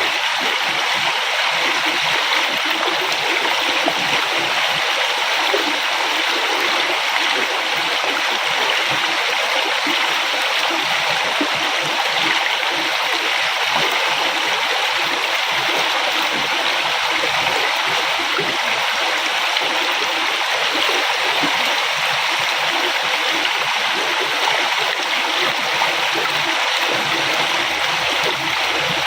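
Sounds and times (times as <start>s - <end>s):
river flowing: 0.0s - 29.0s
water gurgling and splashing: 0.0s - 29.0s.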